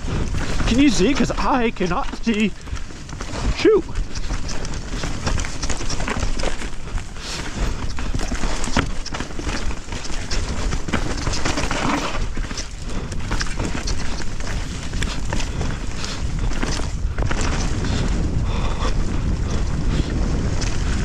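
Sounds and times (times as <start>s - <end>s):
bike rattling and clattering: 0.0s - 21.0s
bike tyres on dirt trail: 0.0s - 21.0s.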